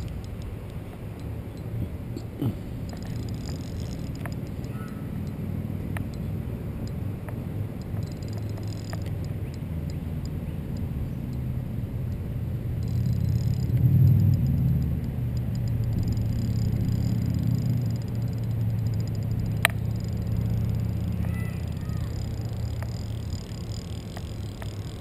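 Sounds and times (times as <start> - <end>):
fishing reel whirring: 0.0 - 25.0.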